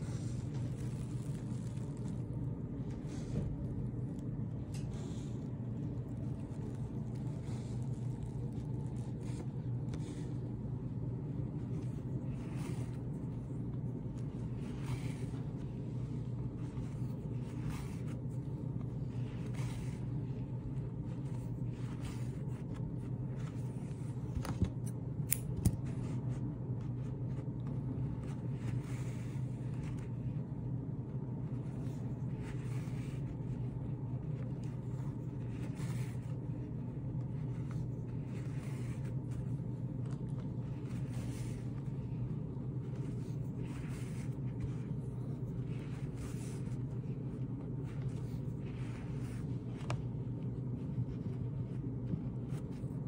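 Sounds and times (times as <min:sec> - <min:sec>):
yarn rustling through rug: 0:00.0 - 0:24.8, 0:25.8 - 0:53.0
low hum: 0:00.0 - 0:53.0.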